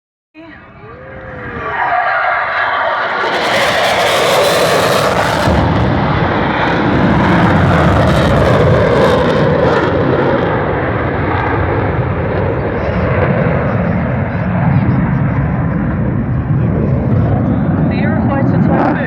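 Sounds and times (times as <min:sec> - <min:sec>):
jet flying past: 0:00.6 - 0:19.0.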